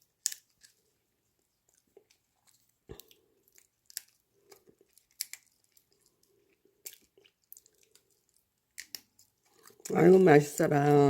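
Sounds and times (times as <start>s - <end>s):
nut shells cracking: 0.0s - 0.8s, 1.6s - 9.9s
soft chewing: 0.0s - 10.0s.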